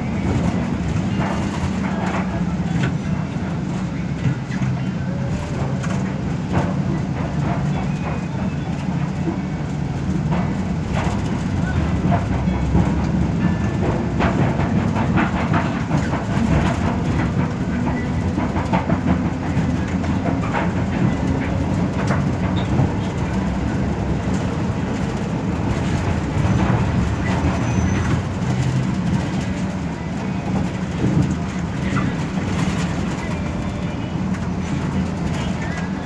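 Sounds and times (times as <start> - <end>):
bus engine and road drone: 0.0 - 36.0
clicks and knocks from bus body: 0.0 - 36.0.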